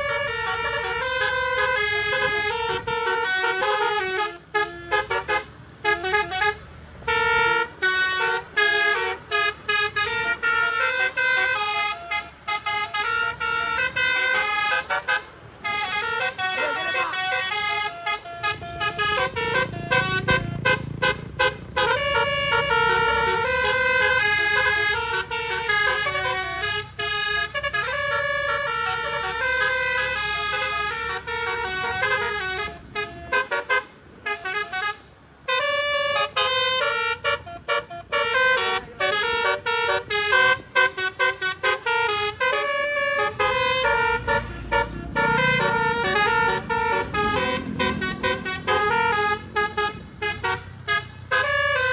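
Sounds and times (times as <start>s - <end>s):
bus engine rumbling: 0.0s - 51.9s
bus horn playing melodic notes: 0.0s - 51.9s.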